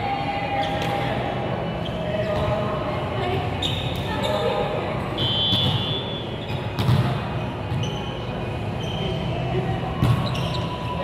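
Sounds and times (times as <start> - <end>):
low background noise in hall: 0.0 - 11.0.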